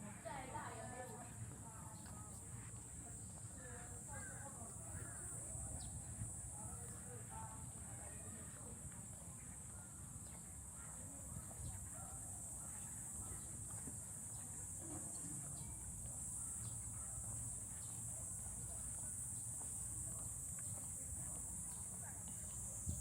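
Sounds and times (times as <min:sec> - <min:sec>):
cicada chorus drone: 0:00.0 - 0:23.0
faint distant voices: 0:00.0 - 0:23.0.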